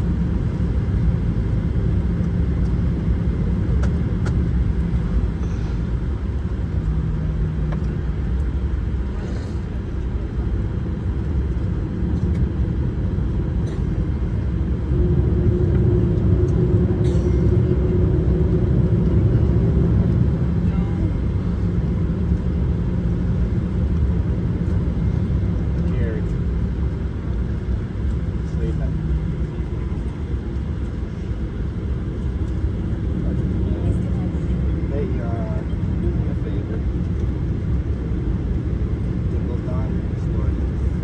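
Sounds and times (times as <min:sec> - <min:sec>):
cabin air conditioning: 0:00.0 - 0:41.0
jet engines low rumble: 0:00.0 - 0:41.0.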